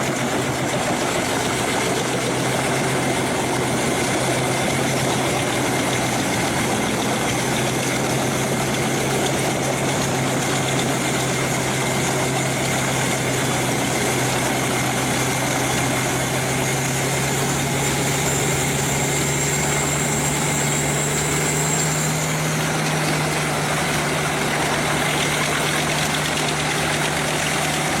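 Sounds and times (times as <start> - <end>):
wood chipper engine running: 0.0 - 28.0.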